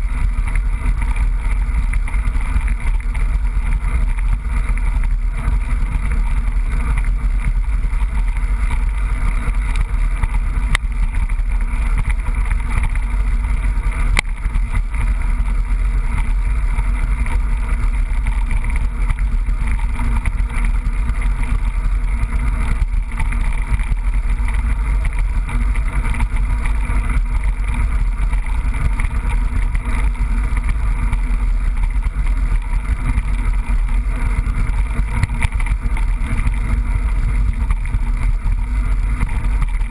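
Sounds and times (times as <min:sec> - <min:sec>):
bike rattling: 0:00.0 - 0:39.9.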